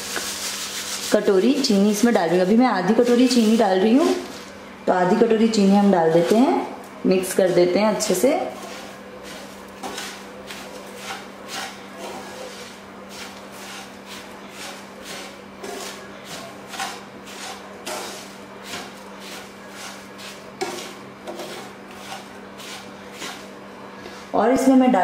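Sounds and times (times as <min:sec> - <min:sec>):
wooden spatula scraping pan: 0:00.1 - 0:04.6, 0:05.5 - 0:24.4.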